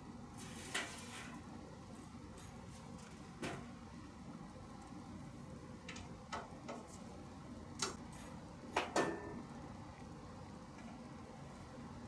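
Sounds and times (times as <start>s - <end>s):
steady low background noise: 0.0s - 0.4s, 1.4s - 12.0s.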